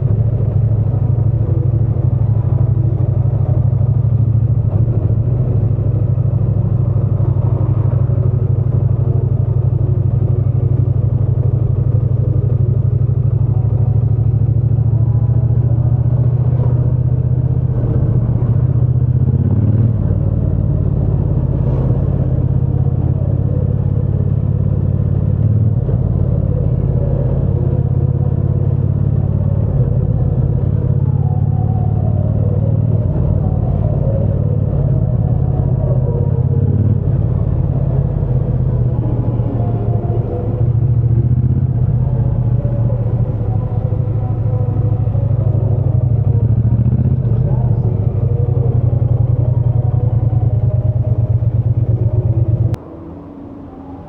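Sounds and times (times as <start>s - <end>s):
motorcycle engine drone: 0.0s - 54.0s.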